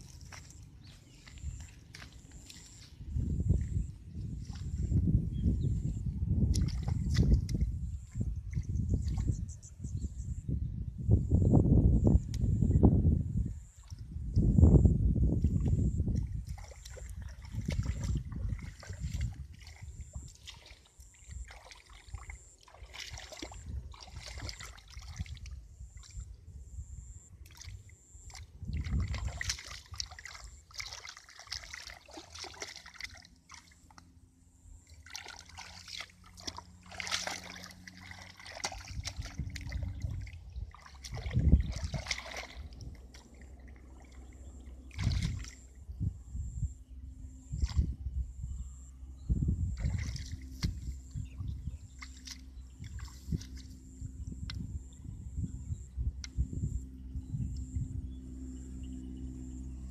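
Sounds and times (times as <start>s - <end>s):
splashing through muddy water: 0.0s - 9.5s, 13.6s - 48.1s, 49.6s - 56.9s.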